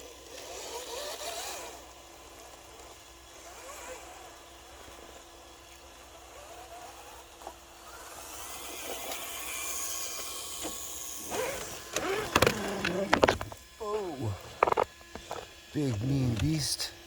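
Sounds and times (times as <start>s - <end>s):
rc car motor whining: 0.0s - 17.0s.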